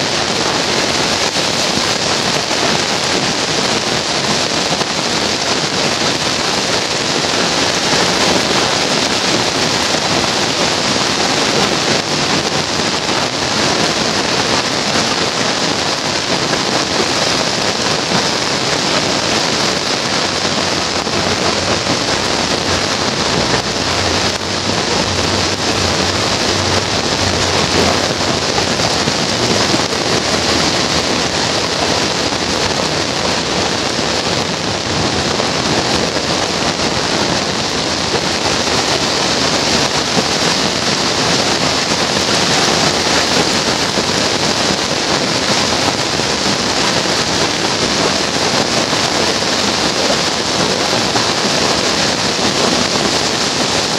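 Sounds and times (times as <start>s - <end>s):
heavy rain on roads and roofs: 0.0s - 53.9s.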